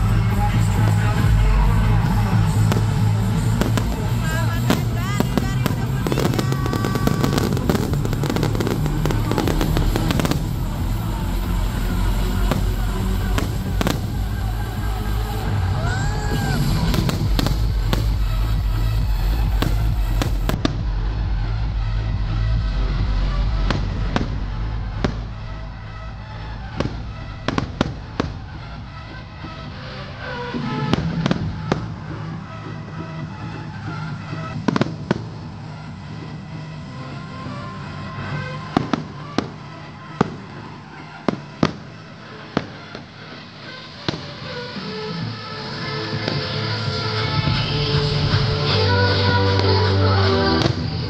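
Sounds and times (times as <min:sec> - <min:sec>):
fireworks bangs and crackles: 0:00.0 - 0:51.0
music playing: 0:00.0 - 0:51.0.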